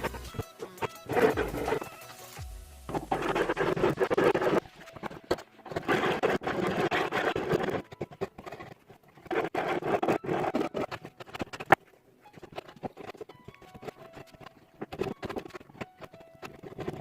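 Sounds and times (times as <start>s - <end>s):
hand tool scraping wood: 0.0s - 2.2s, 2.9s - 17.0s.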